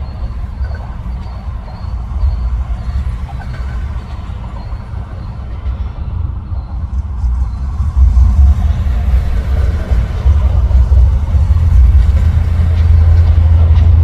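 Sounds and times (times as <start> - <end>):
low rumble of highway traffic: 0.0 - 14.0.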